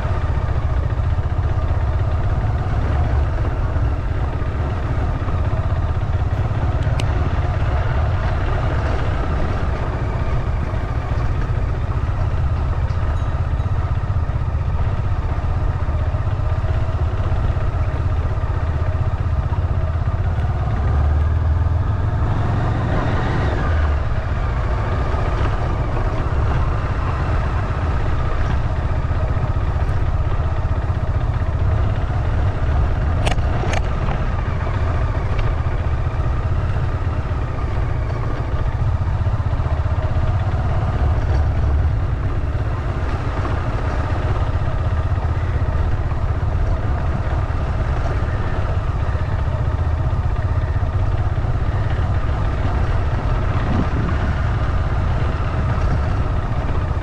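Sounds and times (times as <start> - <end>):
heavy low rumble: 0.0 - 57.0
vehicle engine and road noise: 0.0 - 57.0.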